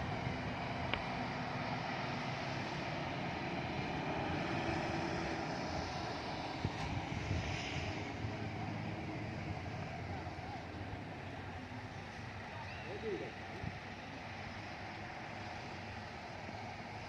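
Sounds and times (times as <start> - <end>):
vehicle motor running with hiss: 0.0 - 17.0.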